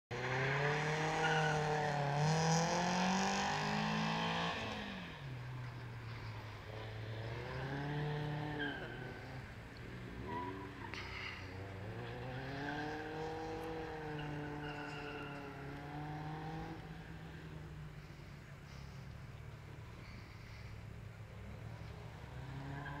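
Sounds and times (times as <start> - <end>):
car engine accelerating hard: 0.1 - 23.0.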